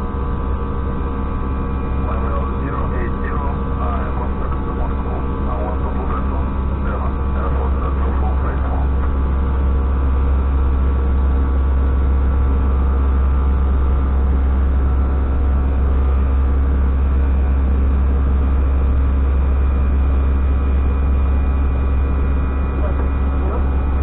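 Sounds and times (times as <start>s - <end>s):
aircraft cockpit drone: 0.0s - 24.0s
humming tones: 0.0s - 24.0s.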